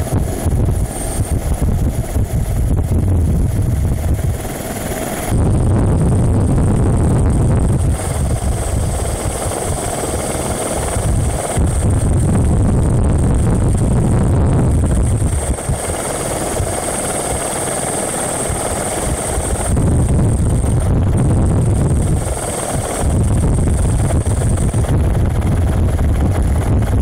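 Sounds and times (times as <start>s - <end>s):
helicopter rotor and engine: 0.0s - 27.0s.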